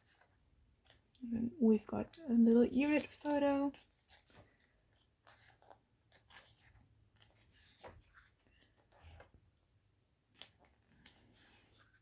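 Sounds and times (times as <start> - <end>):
pages rustling and turning: 0.0 - 9.6, 10.2 - 12.0.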